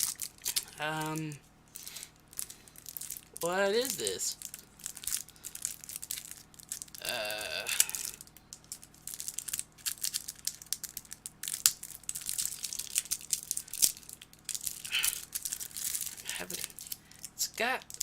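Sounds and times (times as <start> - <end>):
packaging crinkling: 0.0 - 7.1, 7.7 - 18.0.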